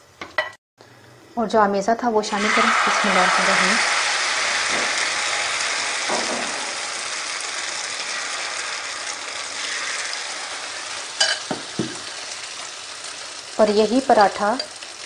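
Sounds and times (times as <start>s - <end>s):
egg mixture sizzling on iron pan: 2.4s - 15.0s.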